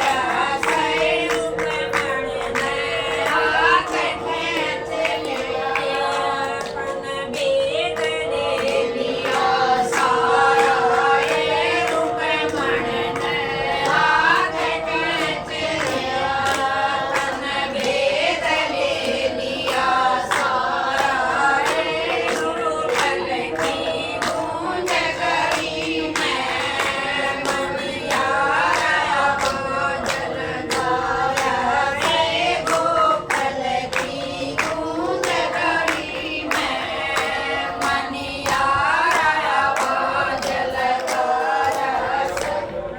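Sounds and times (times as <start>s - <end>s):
group of voices singing folk song: 0.0s - 42.9s
sharp rhythmic beats: 0.0s - 42.9s.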